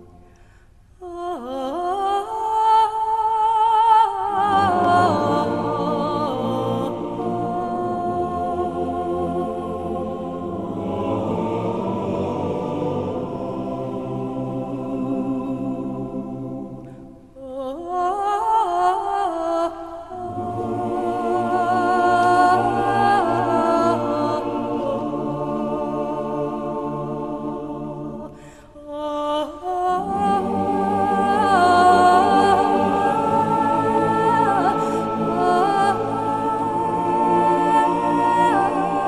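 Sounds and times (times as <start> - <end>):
voices singing in harmony: 1.0 - 39.0.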